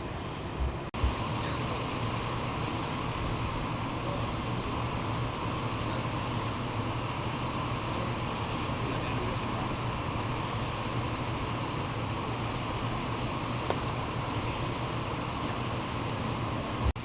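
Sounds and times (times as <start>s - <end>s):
constant hiss: 0.0s - 17.0s
vehicle engine idling: 0.0s - 17.0s.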